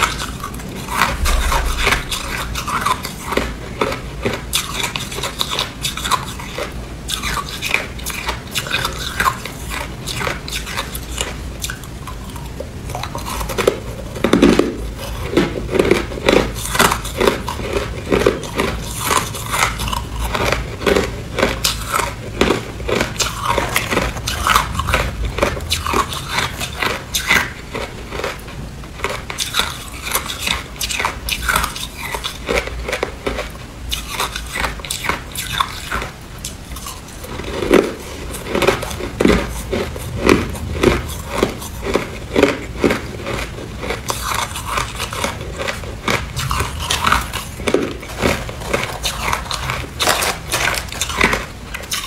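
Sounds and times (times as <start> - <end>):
person chewing ice: 0.0 - 52.0.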